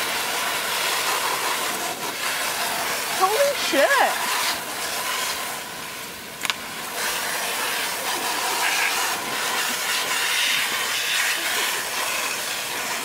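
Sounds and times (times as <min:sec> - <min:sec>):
water jet hissing: 0:00.0 - 0:13.0.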